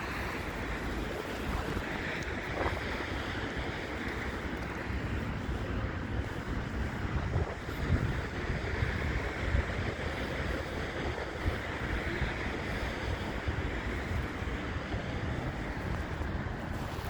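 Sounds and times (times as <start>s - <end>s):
city street traffic: 0.0s - 17.0s
wind buffeting microphone: 0.0s - 17.0s.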